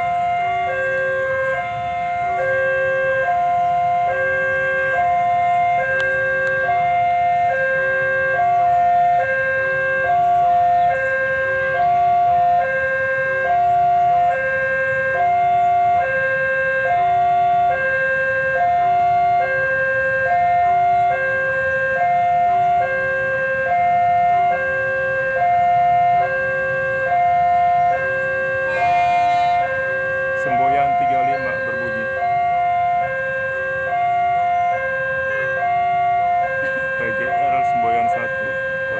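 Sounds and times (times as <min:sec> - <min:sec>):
two-tone level crossing alarm: 0:00.0 - 0:38.9.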